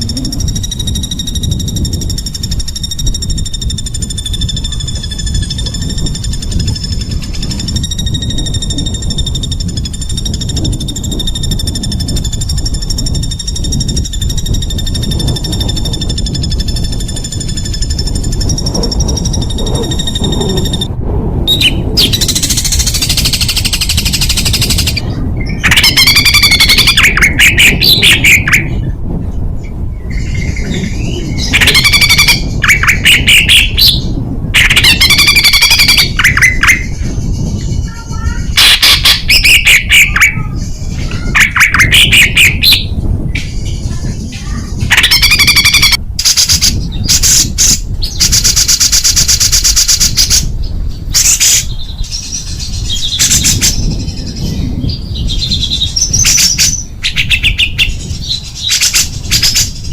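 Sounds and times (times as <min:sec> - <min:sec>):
songbird rapid trill: 0:00.0 - 0:20.9, 0:21.5 - 0:28.8, 0:30.1 - 0:59.9
steady low rumble: 0:00.0 - 0:59.9.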